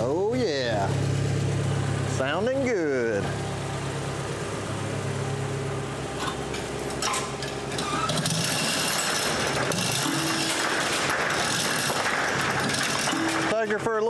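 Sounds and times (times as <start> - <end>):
utility vehicle running: 0.0 - 14.0.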